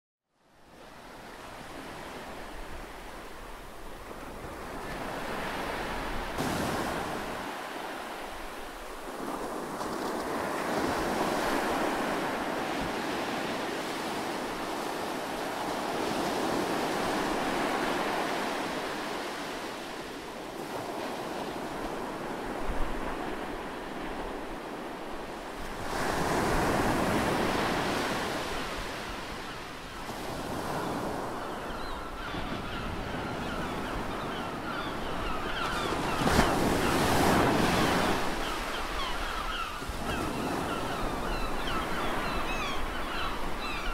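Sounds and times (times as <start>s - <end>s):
wind: 0.2s - 43.9s
ocean waves breaking on shore: 0.6s - 43.9s.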